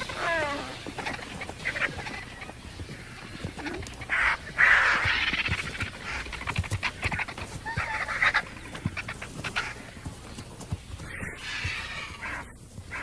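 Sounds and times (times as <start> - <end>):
animals hissing calls: 0.0 - 9.9, 11.0 - 13.0.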